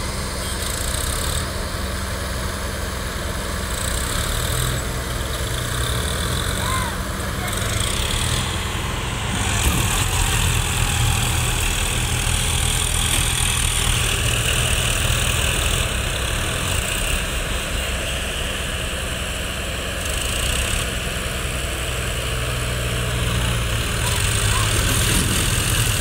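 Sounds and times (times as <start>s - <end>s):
heavy diesel engines drone: 0.0s - 26.0s.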